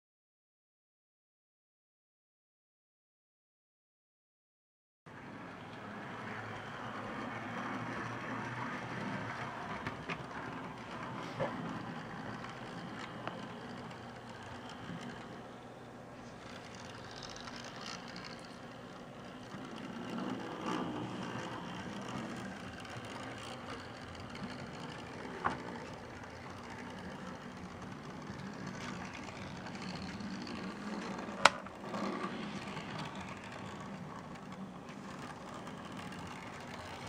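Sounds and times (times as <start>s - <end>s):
model train motor whirring: 5.2s - 37.0s.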